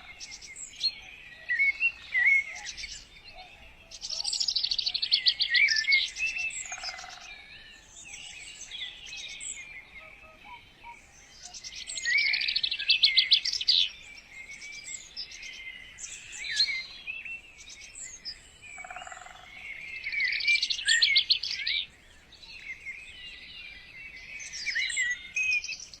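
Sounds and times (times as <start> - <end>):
birds chirping and warbling: 0.0 - 26.0.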